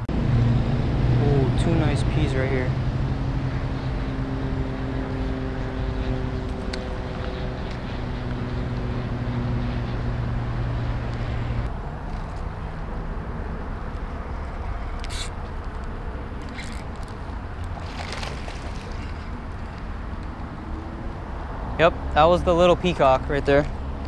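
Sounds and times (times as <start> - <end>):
tyre and road noise: 0.0 - 24.0
vehicle engine hum: 0.0 - 24.0.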